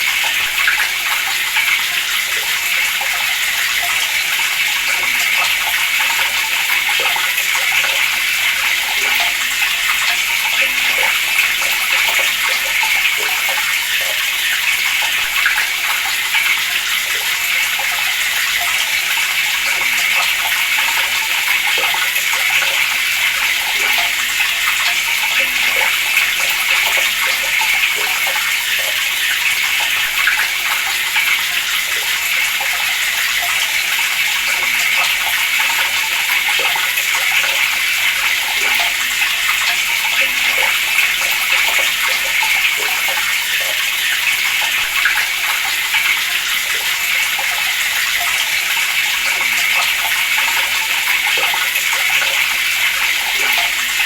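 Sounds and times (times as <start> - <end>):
water running from a tap: 0.0 - 54.0.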